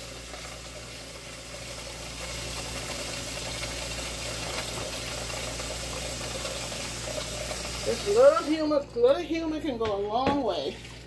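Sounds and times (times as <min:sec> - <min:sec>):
soup boiling and bubbling: 0:00.0 - 0:11.0.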